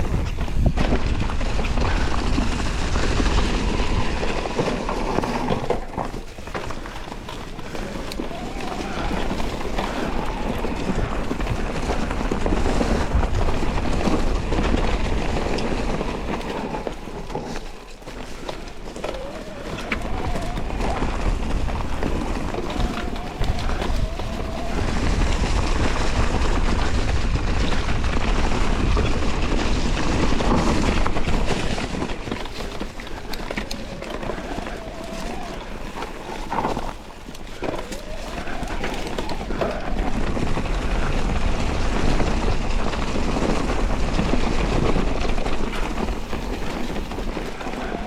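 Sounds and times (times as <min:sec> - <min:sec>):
bike tyres and rattle on dirt: 0:00.0 - 0:48.0.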